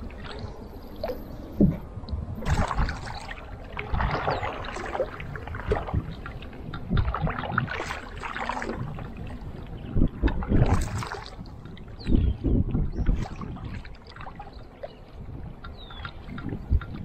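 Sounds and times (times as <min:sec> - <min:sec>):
paddle splashing in river: 0:00.0 - 0:17.0.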